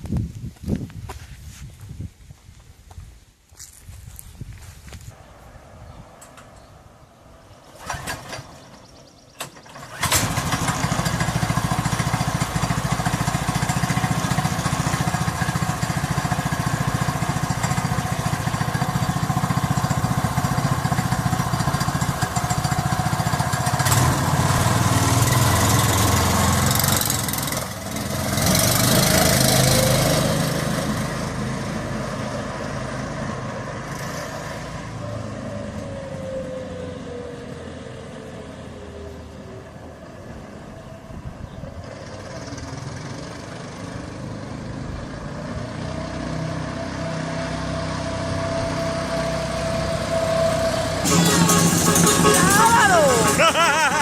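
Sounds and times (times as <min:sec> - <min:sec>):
engine running: 0:05.2 - 0:54.0.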